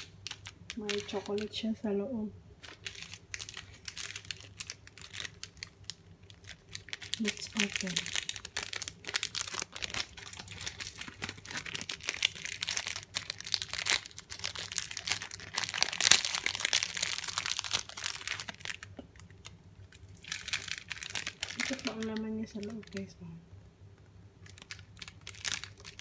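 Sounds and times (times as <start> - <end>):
plastic wrapper crinkling: 0.0 - 23.2, 24.4 - 26.0.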